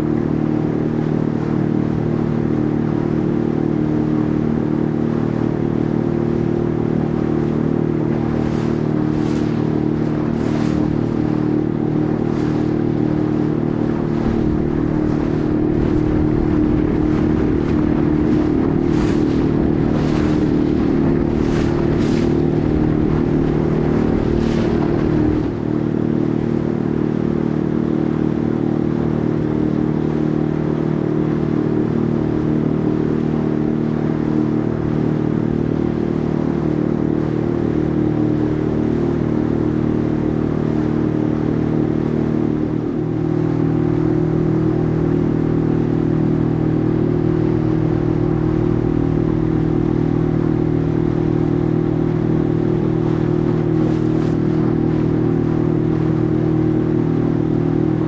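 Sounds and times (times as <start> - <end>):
boat engine running: 0.0 - 58.0
water splashing against hull: 0.0 - 58.0.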